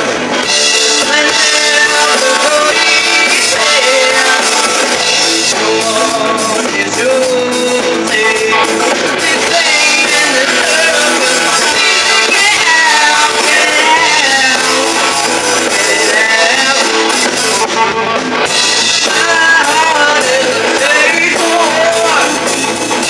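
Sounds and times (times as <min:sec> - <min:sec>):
drum kit beat: 0:00.0 - 0:23.0
electric bass: 0:00.0 - 0:23.0
electric guitar: 0:00.0 - 0:23.0
woman singing: 0:01.0 - 0:17.0, 0:19.1 - 0:22.5.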